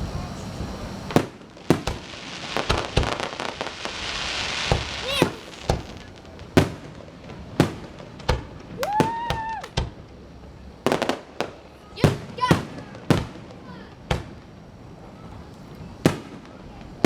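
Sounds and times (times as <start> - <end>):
fireworks bangs: 0.0 - 17.0
fireworks crackling hiss: 0.0 - 17.0.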